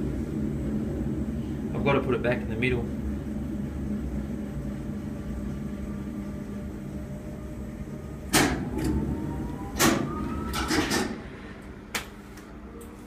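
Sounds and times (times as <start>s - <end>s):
crane drive hum and rumble: 0.0s - 13.0s
faint rising whine: 0.0s - 13.0s.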